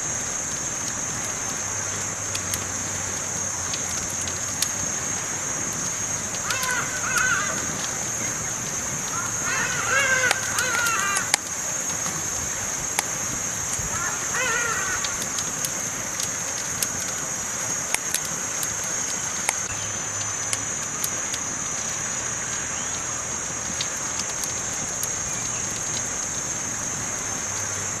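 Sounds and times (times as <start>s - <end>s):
campfire crackling and popping: 0.0s - 28.0s
high-pitched hiss: 0.0s - 28.0s.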